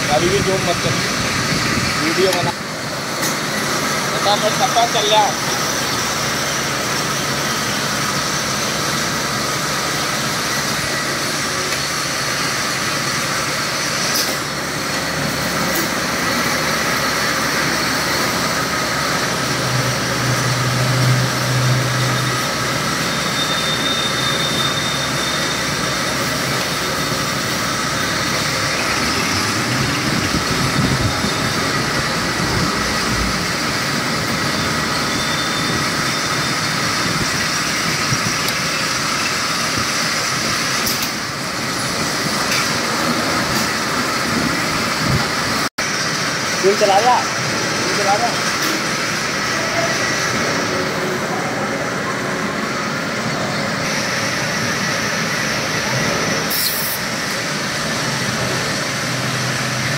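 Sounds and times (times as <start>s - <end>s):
lathe running: 0.0s - 59.9s.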